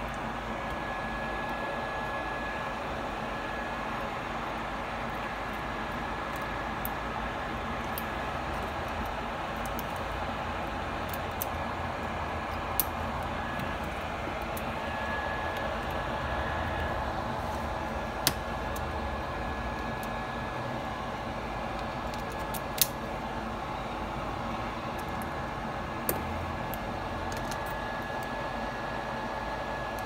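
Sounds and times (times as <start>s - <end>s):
faint steady whine: 0.0s - 30.0s.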